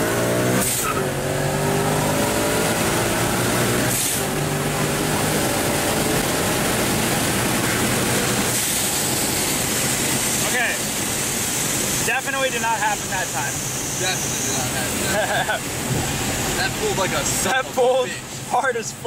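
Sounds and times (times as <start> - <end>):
car engine at full throttle: 0.0 - 19.0
wind and tyre noise: 0.0 - 19.0.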